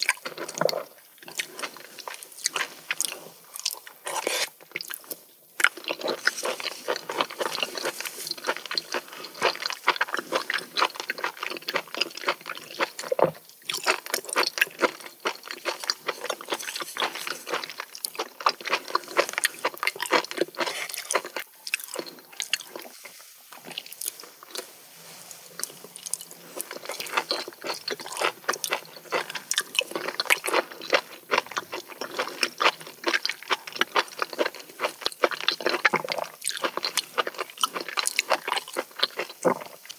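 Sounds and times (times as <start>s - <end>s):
person chewing: 0.0s - 24.7s, 25.3s - 39.9s.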